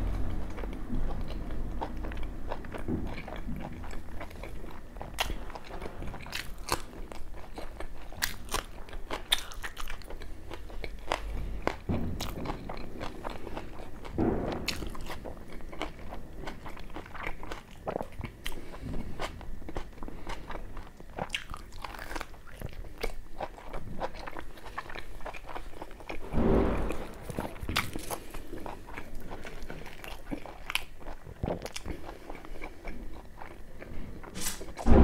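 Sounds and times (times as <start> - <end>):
man chewing food: 0.0 - 35.0.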